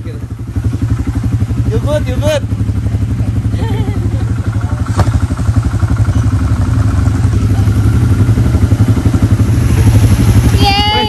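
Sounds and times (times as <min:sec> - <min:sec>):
atv engine throbbing: 0:00.0 - 0:11.0.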